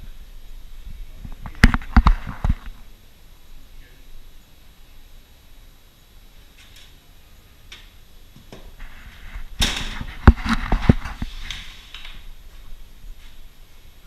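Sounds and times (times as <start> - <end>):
rustling hiss: 0.0 - 14.0.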